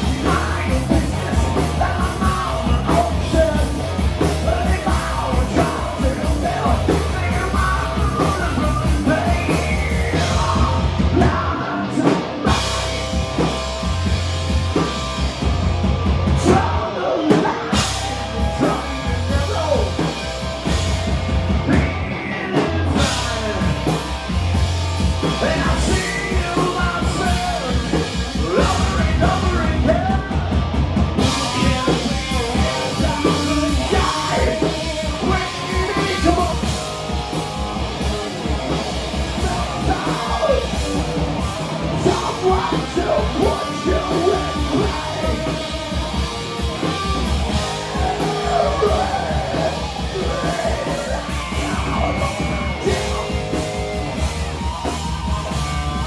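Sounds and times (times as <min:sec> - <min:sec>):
person singing: 0:00.0 - 0:12.8, 0:16.3 - 0:24.2, 0:25.2 - 0:56.0
drum kit: 0:00.0 - 0:56.0
live rock band: 0:00.0 - 0:56.0.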